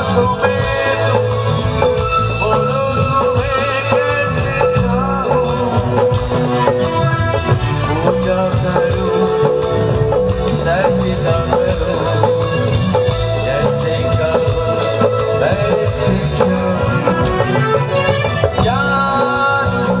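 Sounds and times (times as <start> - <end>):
bass: 0.0 - 20.0
drum beat: 0.0 - 20.0
keyboard melody: 0.0 - 20.0
live band music: 0.0 - 20.0.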